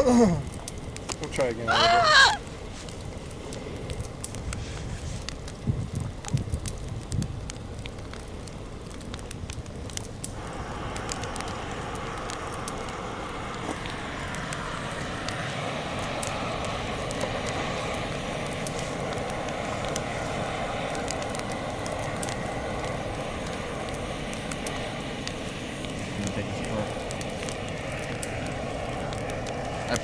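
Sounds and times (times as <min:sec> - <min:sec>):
campfire crackling and popping: 0:00.0 - 0:30.0
steady rushing hiss: 0:00.0 - 0:30.0.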